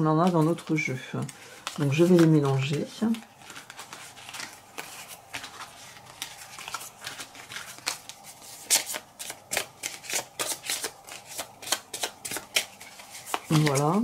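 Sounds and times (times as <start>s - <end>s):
playing cards being shuffled: 0.0s - 14.0s.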